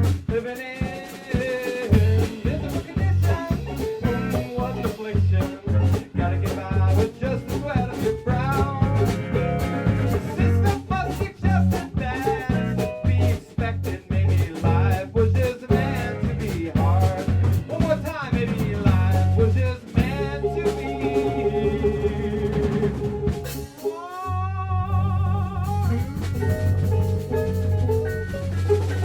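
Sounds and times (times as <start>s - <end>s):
live band playing: 0.0s - 29.0s.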